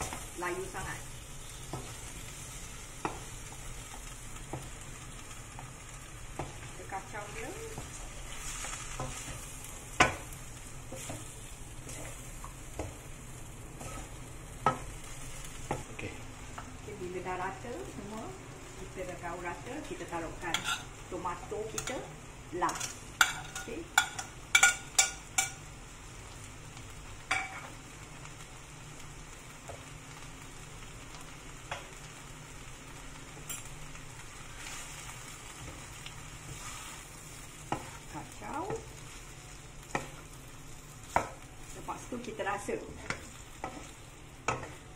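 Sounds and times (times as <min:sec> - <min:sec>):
food sizzling in a wok: 0:00.0 - 0:44.9.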